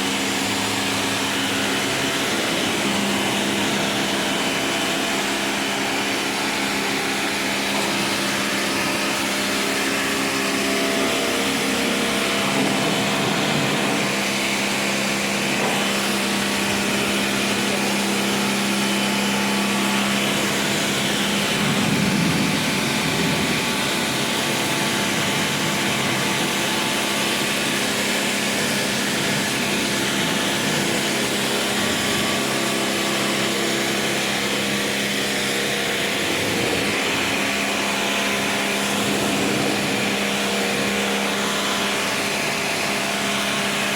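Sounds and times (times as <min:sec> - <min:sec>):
pressure washer pump running: 0:00.0 - 0:43.9
water jet spraying: 0:00.0 - 0:43.9.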